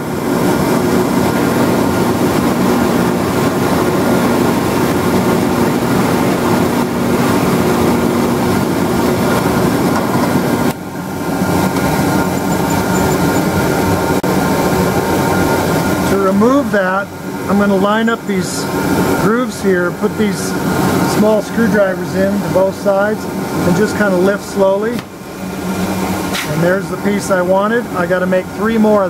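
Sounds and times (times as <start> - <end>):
vacuum droning: 0.0 - 28.8.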